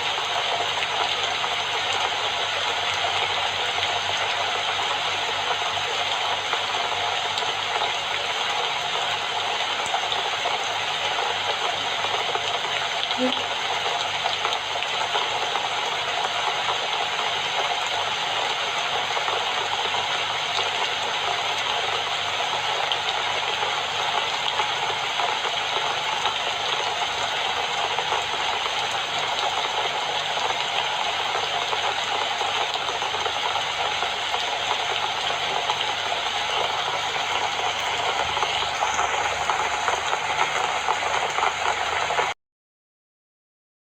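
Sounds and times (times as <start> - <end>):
steady rainfall: 0.0 - 42.4.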